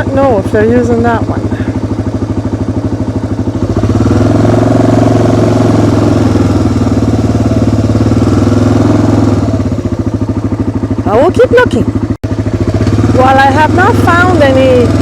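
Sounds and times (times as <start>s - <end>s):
small vehicle engine revving: 0.0s - 15.0s.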